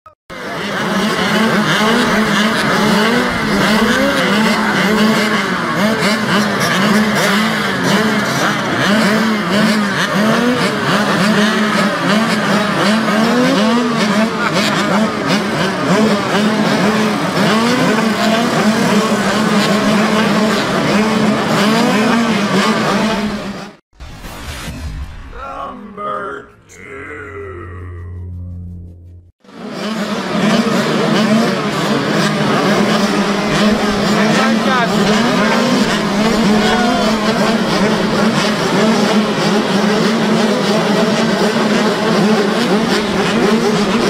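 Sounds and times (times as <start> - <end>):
dirt bike engines revving: 0.3 - 23.8, 25.6 - 44.0.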